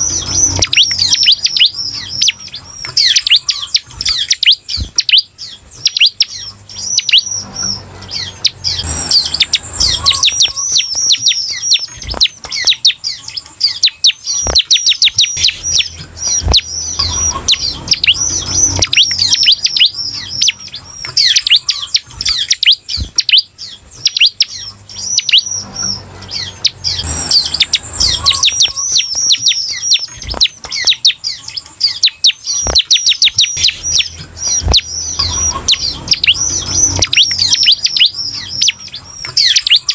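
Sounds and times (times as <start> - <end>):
bird chattering high chirps: 0.0 - 39.9.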